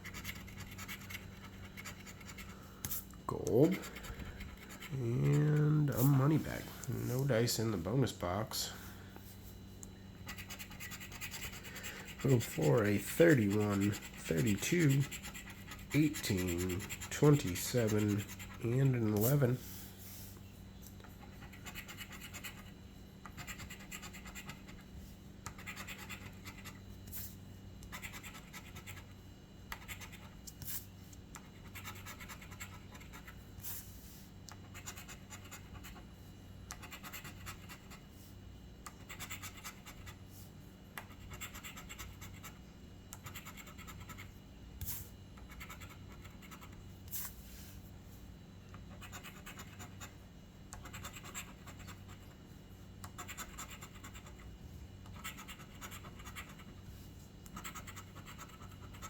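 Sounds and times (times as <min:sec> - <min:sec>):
scratching lottery ticket: 0:00.0 - 0:02.7, 0:03.3 - 0:07.6, 0:10.2 - 0:19.9, 0:21.1 - 0:27.3, 0:27.9 - 0:30.8, 0:31.4 - 0:34.0, 0:34.6 - 0:36.1, 0:36.7 - 0:38.0, 0:38.8 - 0:40.2, 0:41.0 - 0:42.6, 0:43.2 - 0:44.4, 0:45.4 - 0:47.4, 0:48.8 - 0:59.0
steady low hum: 0:00.0 - 0:59.0.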